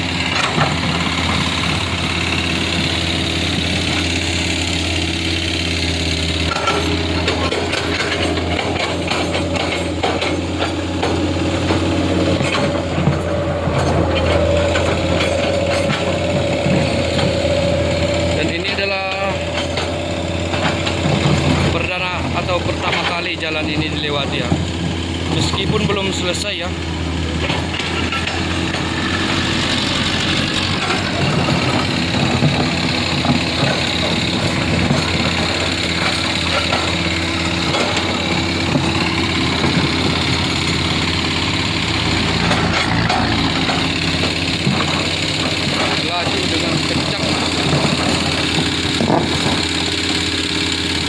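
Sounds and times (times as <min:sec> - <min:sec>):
heavy diesel engine running: 0:00.0 - 0:51.0.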